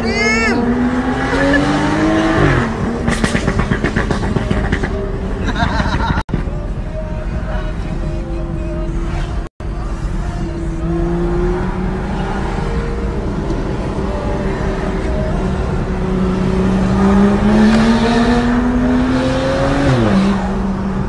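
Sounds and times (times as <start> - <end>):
car engine accelerating: 0.0 - 6.6, 8.9 - 21.0
road rumble: 0.0 - 21.0.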